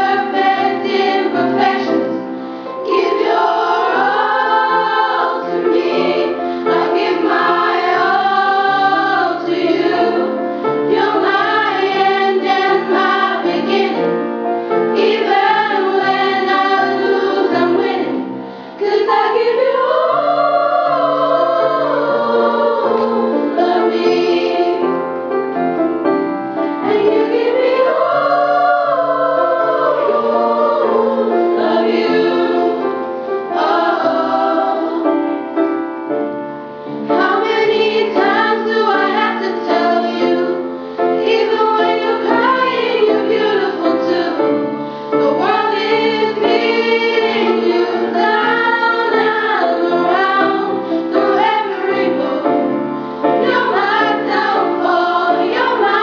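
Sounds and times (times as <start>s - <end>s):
girls choir singing: 0.0s - 25.6s, 26.5s - 35.8s, 36.8s - 56.0s.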